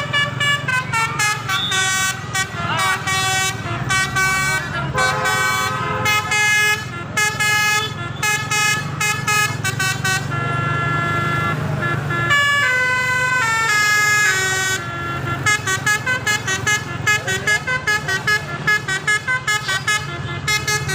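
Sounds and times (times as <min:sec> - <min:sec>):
musical horn playing a melody: 0:00.0 - 0:20.9.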